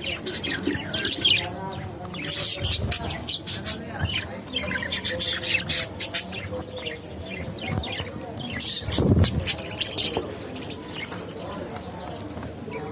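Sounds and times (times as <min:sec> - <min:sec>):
budgerigars chirping: 0:00.0 - 0:11.3.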